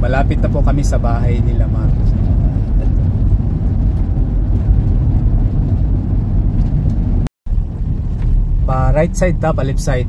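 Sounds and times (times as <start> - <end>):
van engine and tyres rumbling: 0.0 - 10.0.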